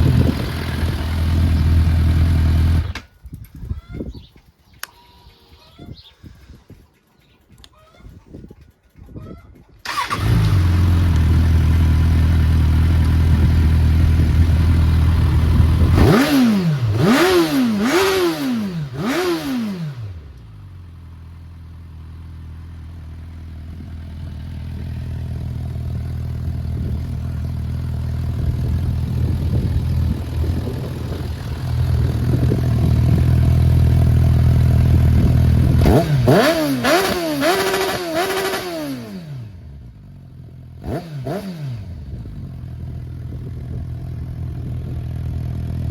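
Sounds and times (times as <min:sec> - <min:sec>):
motorcycle engine idling and revving: 0:00.0 - 0:04.9, 0:05.9 - 0:45.9.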